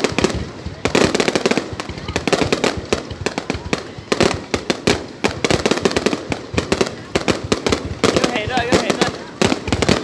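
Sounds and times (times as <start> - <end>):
fireworks bangs and cracks: 0.0 - 10.0.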